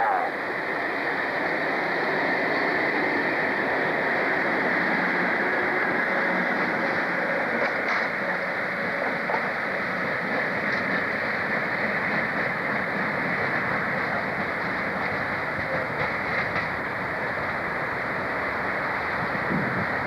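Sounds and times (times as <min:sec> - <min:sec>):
train moving on rails: 0:00.0 - 0:20.0.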